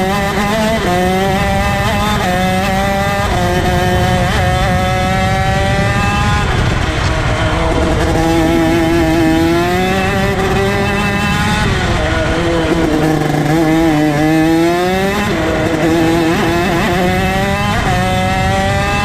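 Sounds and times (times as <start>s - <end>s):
kart engine accelerating: 0.0s - 19.0s.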